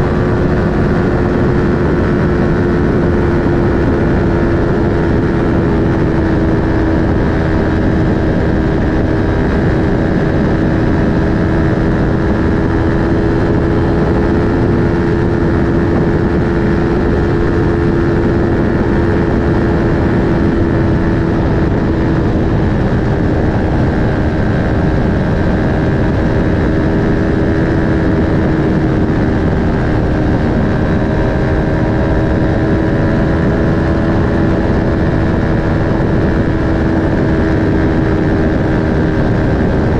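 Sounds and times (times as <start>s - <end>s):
motorcycle engine at steady revs: 0.0s - 39.9s
rush of wind noise: 0.0s - 39.9s.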